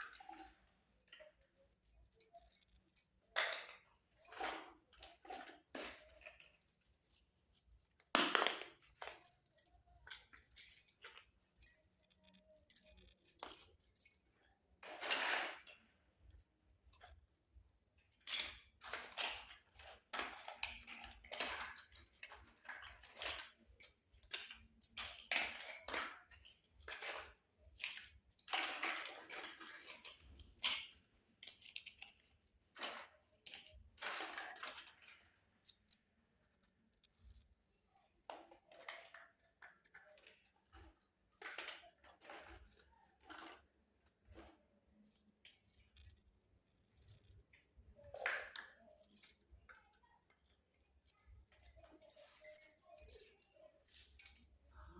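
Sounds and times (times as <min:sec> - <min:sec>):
toy kitchen pieces clicking: 0:01.0 - 0:46.2, 0:47.0 - 0:54.6.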